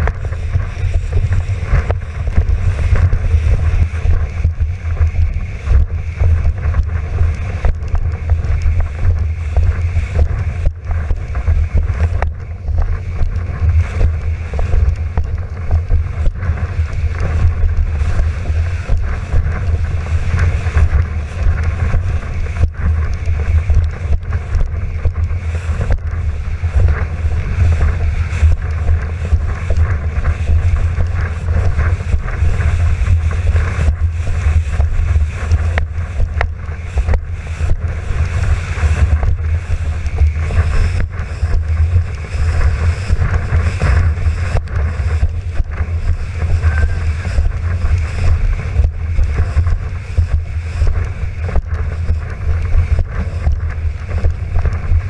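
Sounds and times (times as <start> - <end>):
water rushing and splashing: 0.0 - 55.0
wind buffeting microphone: 0.0 - 55.0.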